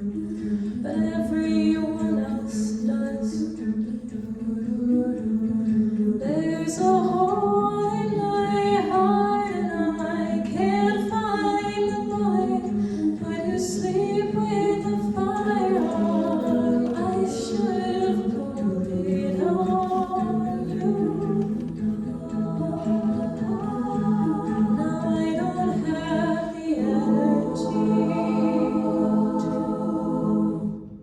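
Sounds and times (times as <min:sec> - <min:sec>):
vocal ensemble singing in harmony: 0:00.0 - 0:31.0.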